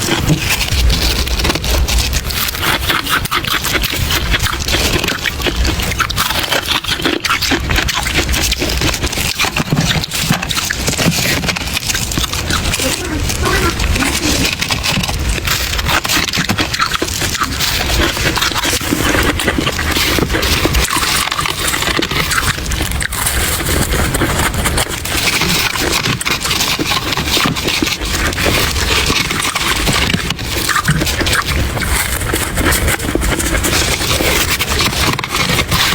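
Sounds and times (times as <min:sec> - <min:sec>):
chewing and crunching frost: 0:00.0 - 0:35.9.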